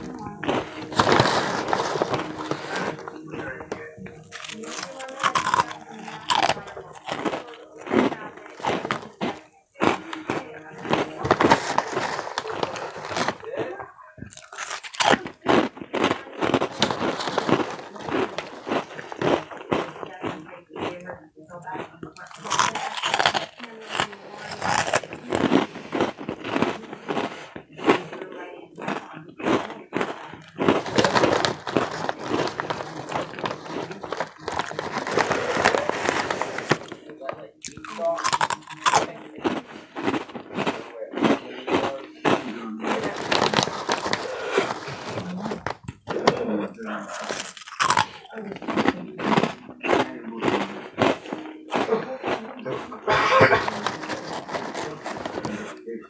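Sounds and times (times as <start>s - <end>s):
crunching and chewing snacks: 0.0s - 56.0s
snack bag crinkling: 0.0s - 56.0s.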